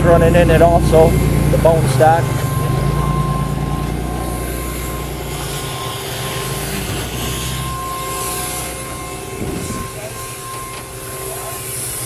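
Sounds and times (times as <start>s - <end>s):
high whine: 0.0s - 12.0s
motor droning: 0.0s - 12.0s.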